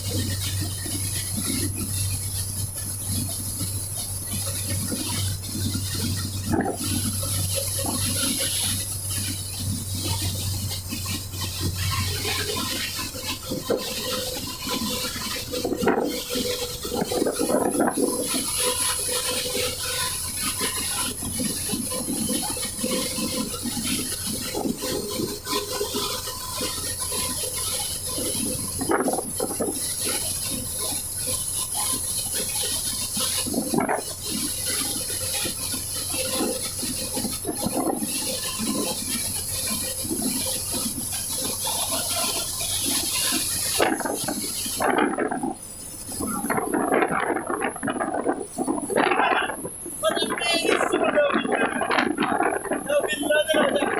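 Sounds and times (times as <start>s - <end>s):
gusty wind: 0.0s - 53.9s
rain: 0.0s - 53.9s.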